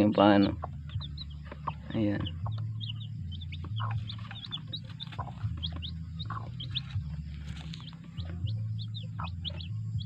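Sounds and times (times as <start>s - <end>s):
chicks peeping: 0.0s - 10.0s
steady low hum: 0.0s - 10.0s.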